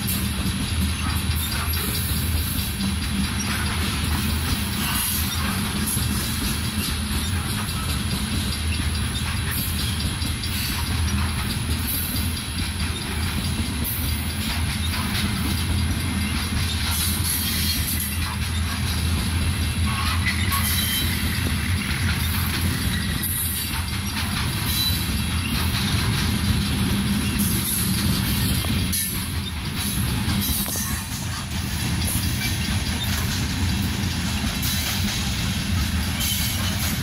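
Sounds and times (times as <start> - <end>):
hissing rattling of train cars: 0.0 - 37.0
train wheels rumbling on rail: 0.0 - 37.0.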